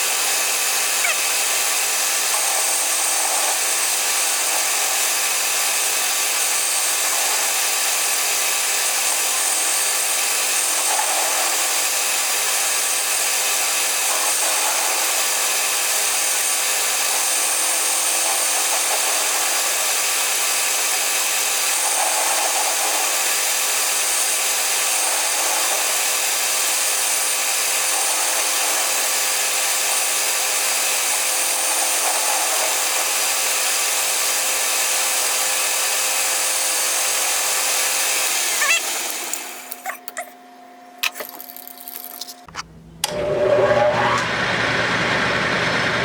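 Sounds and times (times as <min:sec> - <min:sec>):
power tool cutting metal bar: 0:00.0 - 0:40.2, 0:41.2 - 0:46.0.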